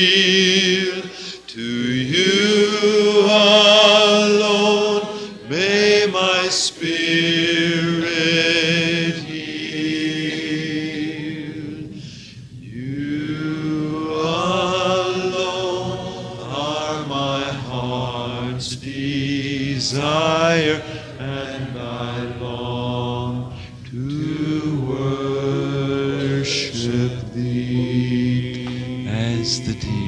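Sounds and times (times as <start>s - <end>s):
congregation singing unaccompanied: 0.0s - 30.0s.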